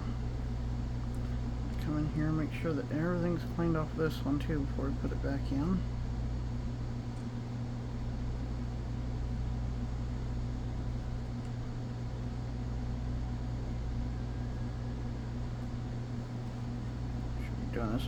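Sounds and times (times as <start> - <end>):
fan-like hiss: 0.0 - 18.0
low electrical hum: 0.0 - 18.0.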